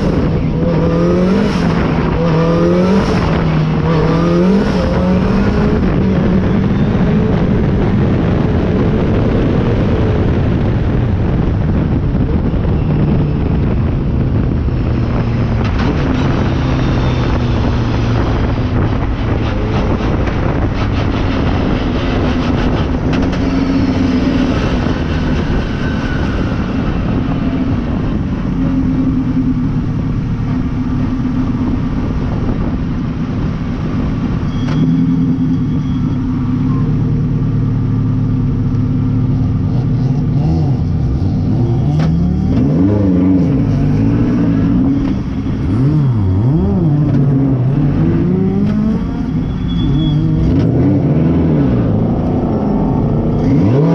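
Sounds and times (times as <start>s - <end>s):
car engine running hard: 0.0s - 53.9s
heavy wind rush on microphone: 0.0s - 53.9s.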